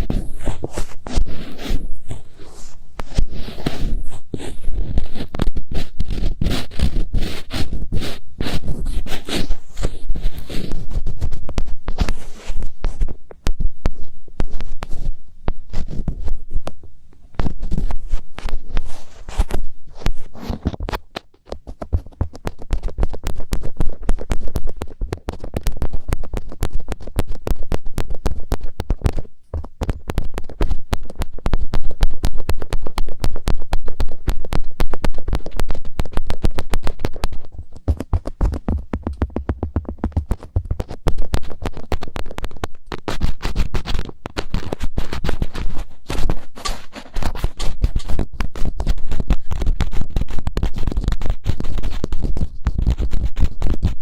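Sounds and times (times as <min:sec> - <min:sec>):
fingertips scratching on microphone: 0:00.0 - 0:54.0.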